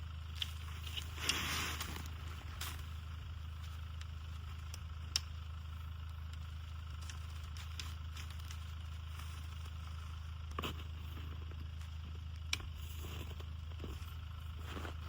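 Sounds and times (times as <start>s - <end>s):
steady low hum: 0.0s - 15.0s
wood fire crackling: 0.0s - 15.0s.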